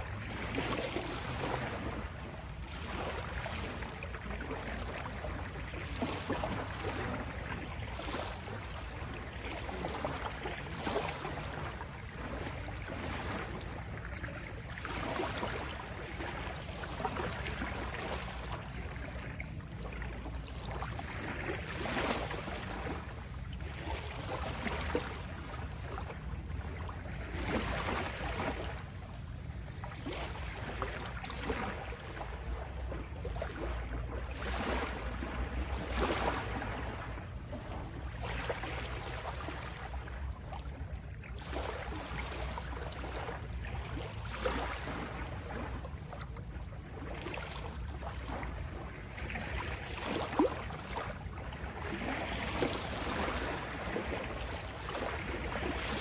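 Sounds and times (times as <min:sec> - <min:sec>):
sea waves lapping on shore: 0:00.0 - 0:56.0.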